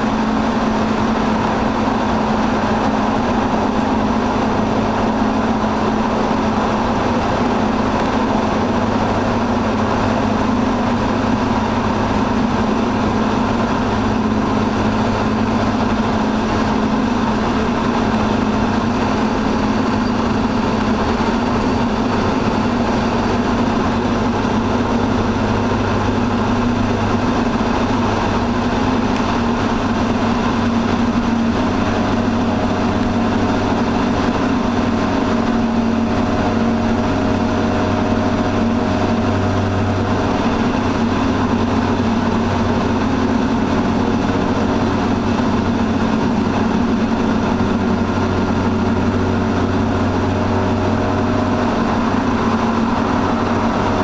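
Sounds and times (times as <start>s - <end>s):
car engine and exhaust drone: 0.0s - 54.0s
car running noise: 0.0s - 54.0s.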